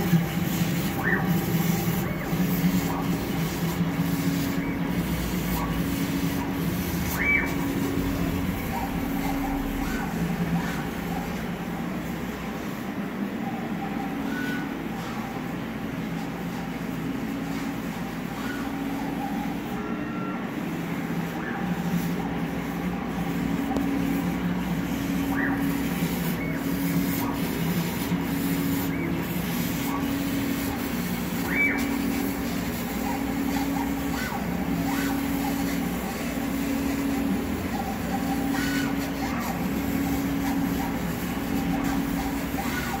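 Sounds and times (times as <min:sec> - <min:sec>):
laser cutter motors whining: 0:00.0 - 0:43.0
steady machine hum: 0:00.0 - 0:43.0.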